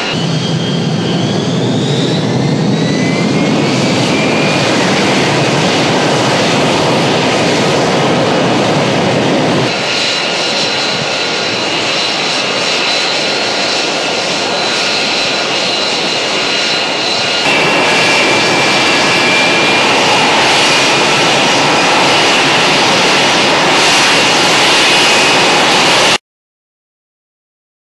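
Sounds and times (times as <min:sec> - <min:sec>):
high steady whines: 0:00.0 - 0:26.2
jet engine roaring: 0:00.0 - 0:26.2.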